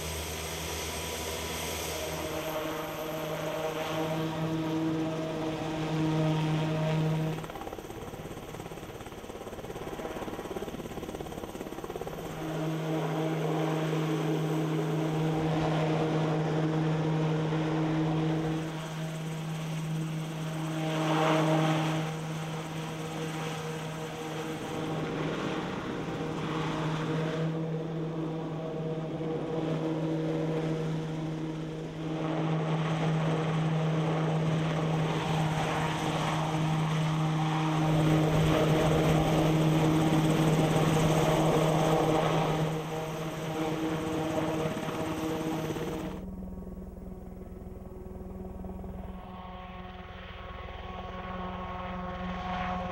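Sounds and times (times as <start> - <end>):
helicopter rotor hum: 0.0 - 52.9.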